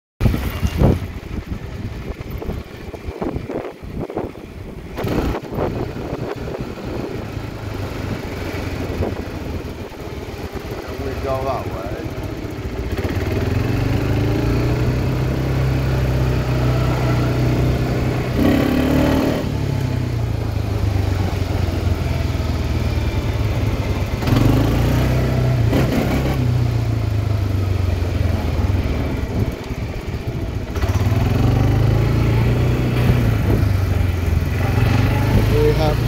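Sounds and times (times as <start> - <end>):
quad bike engine running: 0.2 - 36.0.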